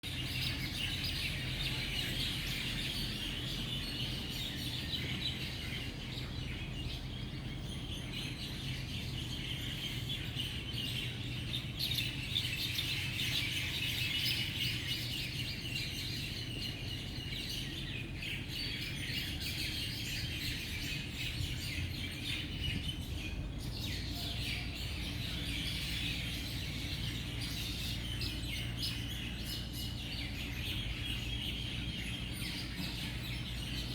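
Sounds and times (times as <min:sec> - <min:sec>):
low steady rumble: 0:00.0 - 0:33.9
birds chirping and calling: 0:00.1 - 0:33.9.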